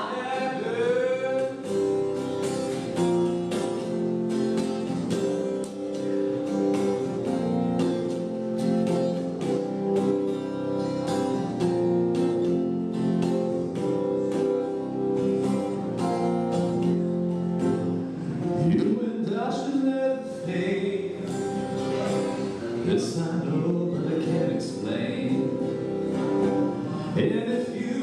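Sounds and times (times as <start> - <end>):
guitar strumming chords: 0.0 - 28.0.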